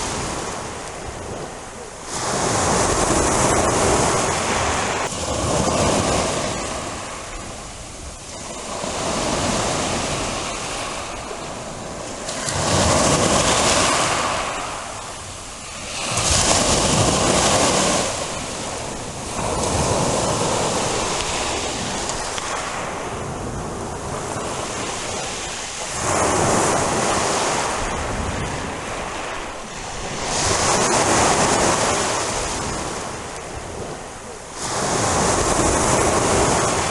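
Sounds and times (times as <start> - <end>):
sea waves breaking on shore: 0.0 - 36.9.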